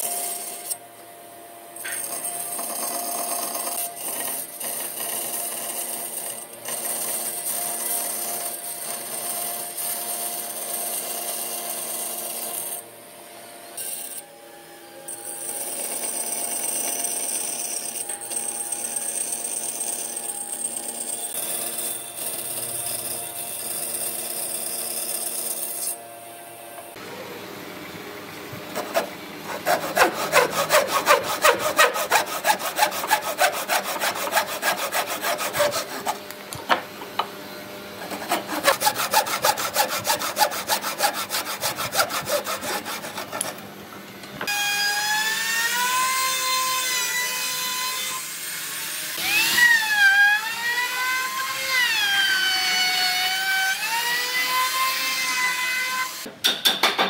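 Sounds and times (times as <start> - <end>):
saw cutting wood: 0.0 - 0.8, 1.8 - 12.8, 15.0 - 26.1, 28.5 - 37.3, 37.9 - 43.7, 44.4 - 56.3.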